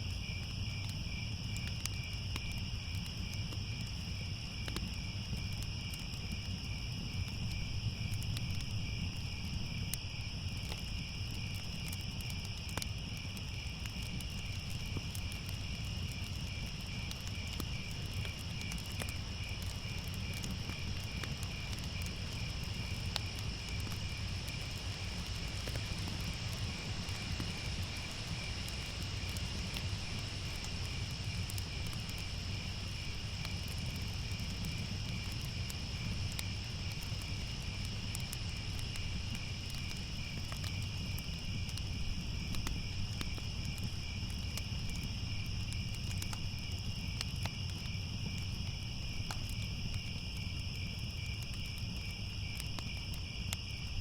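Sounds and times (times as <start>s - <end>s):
crickets chirping: 0.0s - 54.0s
faint crackles: 0.1s - 54.0s.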